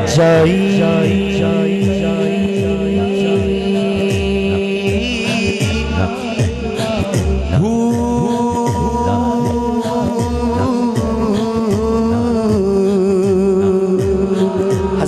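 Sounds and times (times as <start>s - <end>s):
man singing into microphone: 0.0s - 15.0s
steady low beat: 0.0s - 15.0s.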